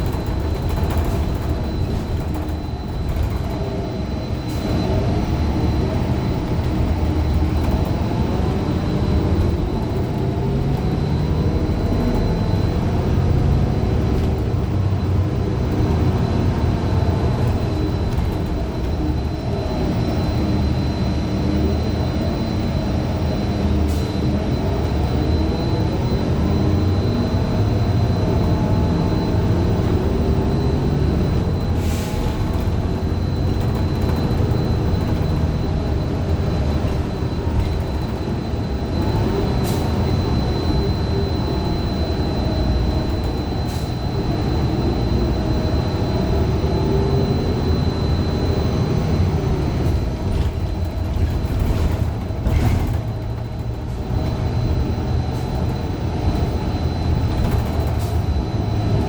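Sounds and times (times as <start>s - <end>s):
bus engine running: 0.0s - 59.0s
faint high whine: 0.0s - 59.0s.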